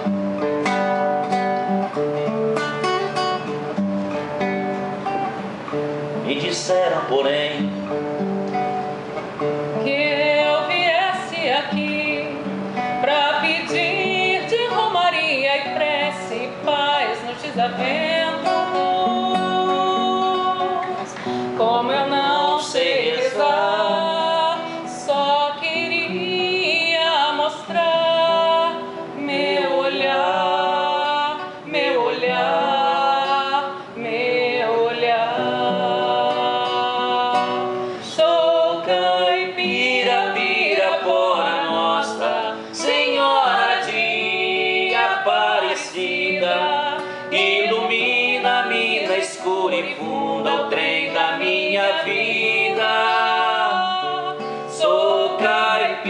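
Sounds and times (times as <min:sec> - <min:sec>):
acoustic guitar: 0:00.0 - 0:56.0
woman singing slow song: 0:09.6 - 0:56.0.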